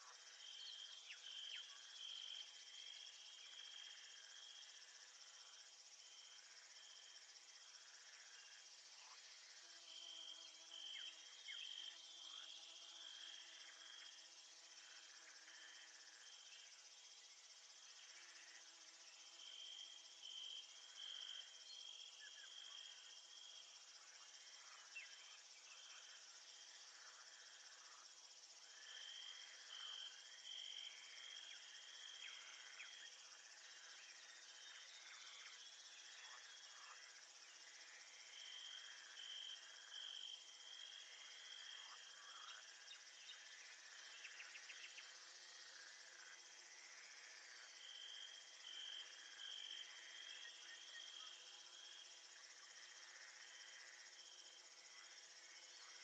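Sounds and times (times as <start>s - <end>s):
crickets chorus: 0.0s - 56.0s.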